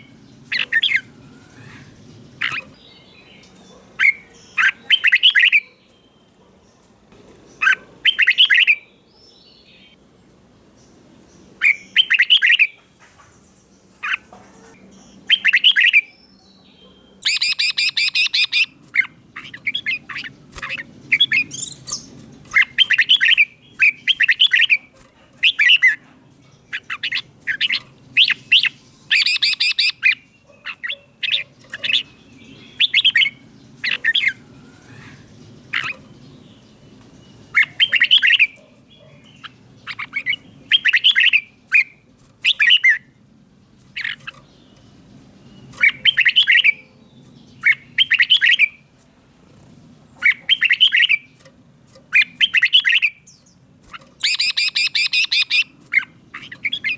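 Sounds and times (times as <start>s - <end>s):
bird singing warbling phrases: 0.0s - 10.0s, 10.7s - 48.9s, 49.8s - 56.9s.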